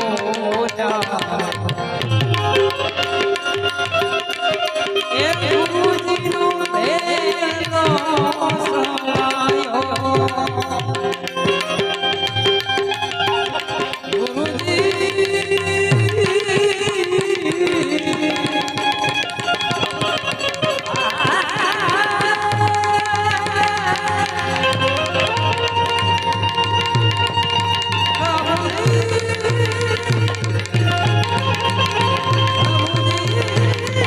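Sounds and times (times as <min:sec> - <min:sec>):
harmonium melody: 0:00.0 - 0:34.0
tabla playing a steady rhythm: 0:00.0 - 0:34.0.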